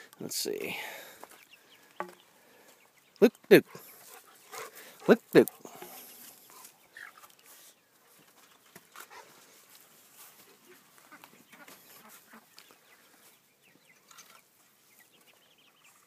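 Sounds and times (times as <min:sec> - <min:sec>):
chickens and ducks calling: 0:00.6 - 0:16.0.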